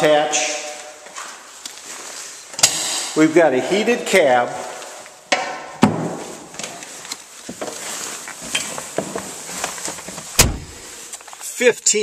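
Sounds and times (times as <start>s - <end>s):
rustling: 0.7s - 5.3s, 6.0s - 11.7s.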